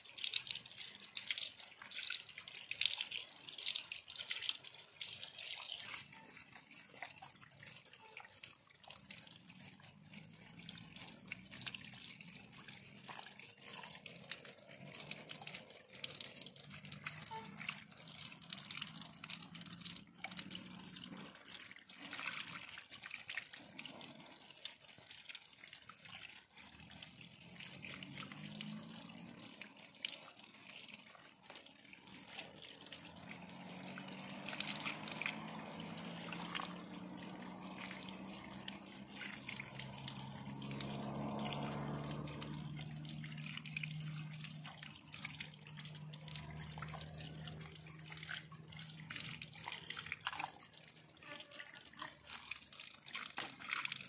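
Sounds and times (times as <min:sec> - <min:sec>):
water pouring and splashing: 0:00.0 - 0:54.0.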